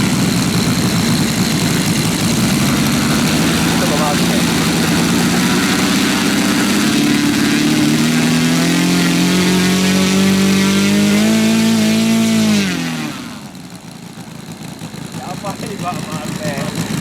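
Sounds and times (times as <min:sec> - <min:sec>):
model plane engine revving: 0:00.0 - 0:17.0.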